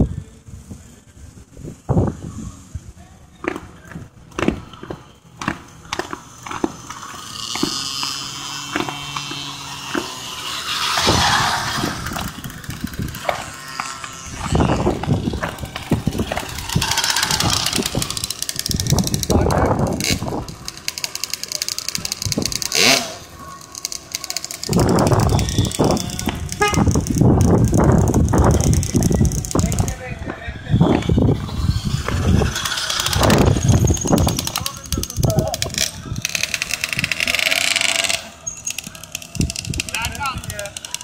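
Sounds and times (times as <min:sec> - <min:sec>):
pocket bike engines buzzing: 0:00.0 - 0:41.0
voices: 0:00.0 - 0:41.0.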